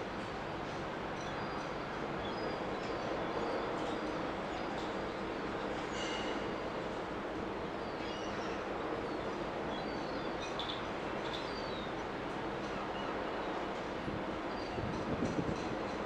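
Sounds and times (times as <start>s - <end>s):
rumbling harbour ambience: 0.0s - 16.0s.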